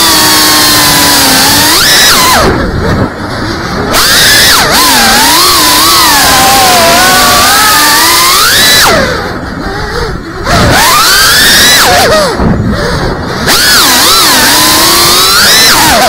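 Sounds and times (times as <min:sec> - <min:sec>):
drone motors whining: 0:00.0 - 0:16.0
wind rush: 0:00.0 - 0:16.0.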